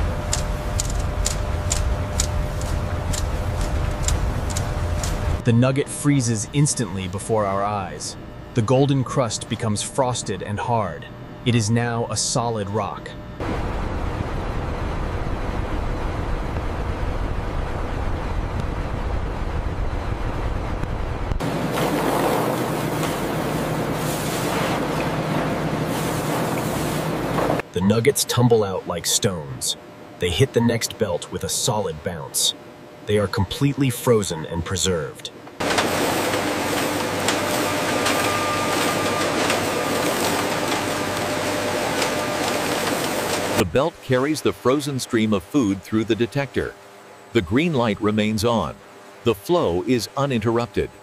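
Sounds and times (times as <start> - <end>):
conveyor machinery running: 0.0 - 51.0
industrial freezer fans rumbling: 0.0 - 51.0.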